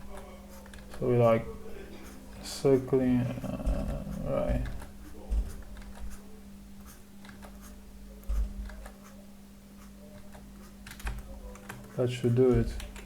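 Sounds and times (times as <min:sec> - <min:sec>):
low hum: 0:00.0 - 0:11.7
stylus scratching on tablet: 0:00.0 - 0:13.0.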